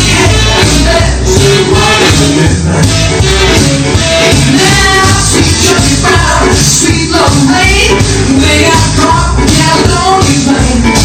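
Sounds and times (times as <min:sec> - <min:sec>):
rock and roll song with singing: 0:00.0 - 0:11.0.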